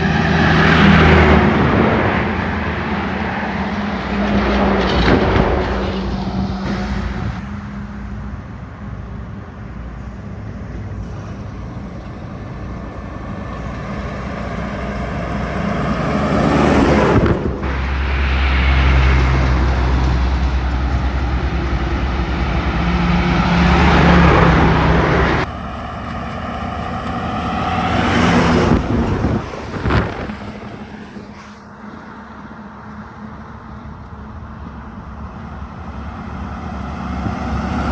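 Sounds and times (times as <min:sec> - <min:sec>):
heavy trucks passing: 0:00.0 - 0:37.9.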